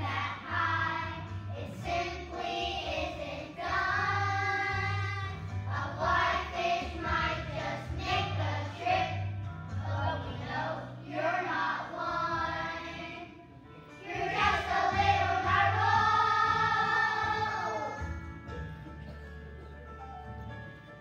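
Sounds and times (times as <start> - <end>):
children singing: 0.0 - 9.2, 9.8 - 13.4, 14.0 - 18.3
musical accompaniment: 0.0 - 21.0.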